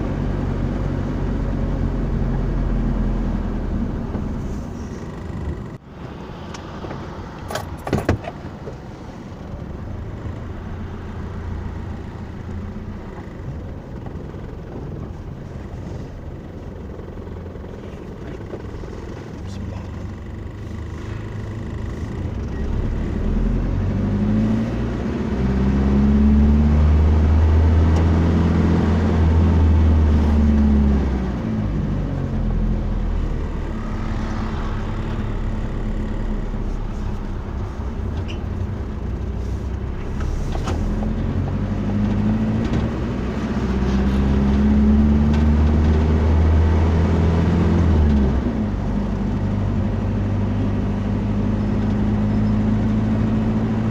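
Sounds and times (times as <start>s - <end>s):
road noise: 0.0s - 53.9s
vehicle engine revving: 0.0s - 53.9s.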